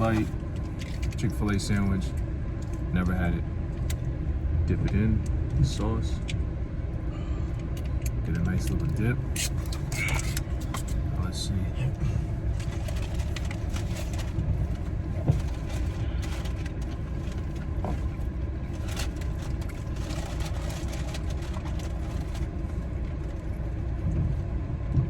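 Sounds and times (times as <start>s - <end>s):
car engine idling: 0.0s - 24.4s.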